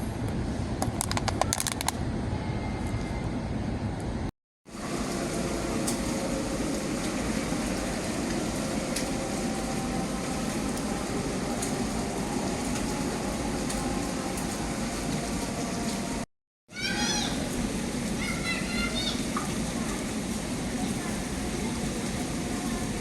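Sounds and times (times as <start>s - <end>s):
crowd hum in food court: 0.0s - 23.0s.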